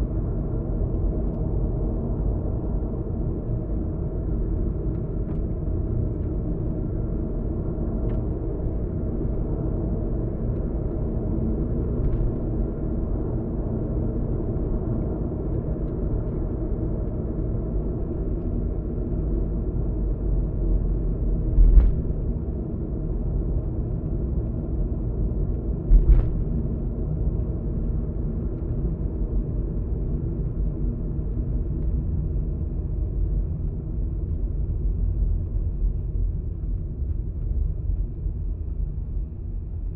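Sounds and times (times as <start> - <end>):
car road noise inside cabin: 0.0 - 39.9.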